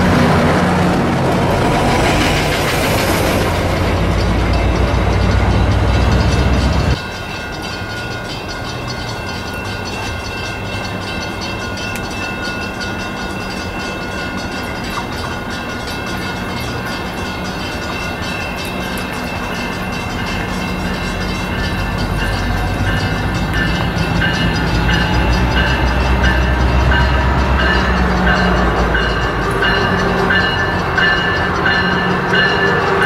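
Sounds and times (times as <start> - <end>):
diesel locomotive passing: 0.0 - 33.0
distant train rail noise: 0.0 - 33.0.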